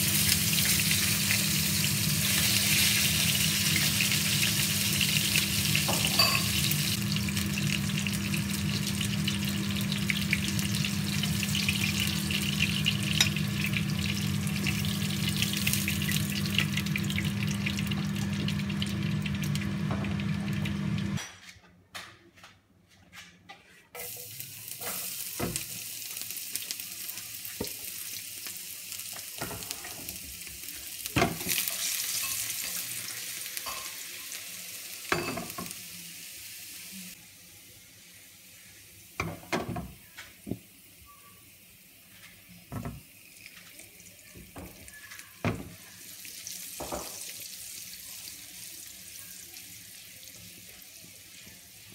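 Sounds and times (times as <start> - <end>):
fish frying in hot oil: 0.0 - 21.2, 24.2 - 37.2, 40.9 - 51.9
garlic sizzling in oil: 0.0 - 21.2, 24.0 - 51.9.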